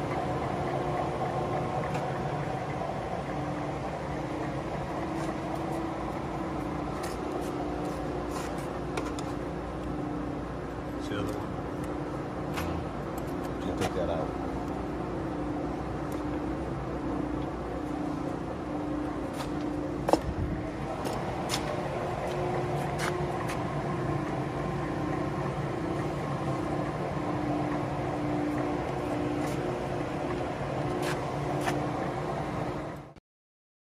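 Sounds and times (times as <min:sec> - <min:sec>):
lathe droning: 0:00.0 - 0:33.1.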